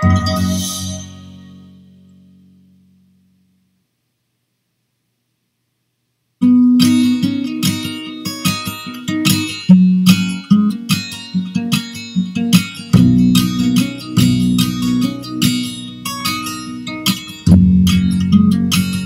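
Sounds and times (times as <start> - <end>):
acoustic guitar chords: 0.0 - 3.8, 6.4 - 19.0.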